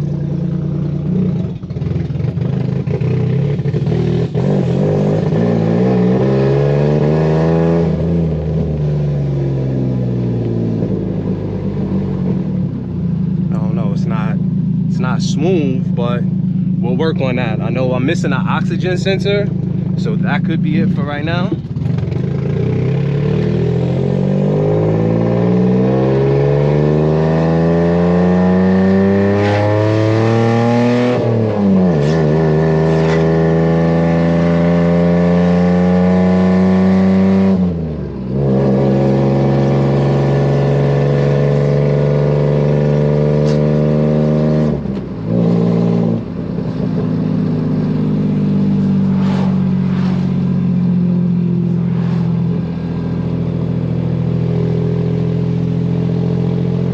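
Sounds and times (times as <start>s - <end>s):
car engine revving through gears: 0.0s - 56.9s.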